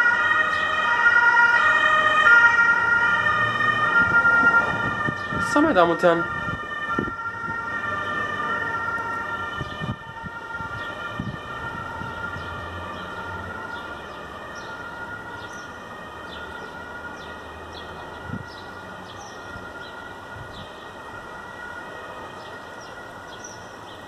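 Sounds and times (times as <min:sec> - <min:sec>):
siren: 0:00.0 - 0:23.9.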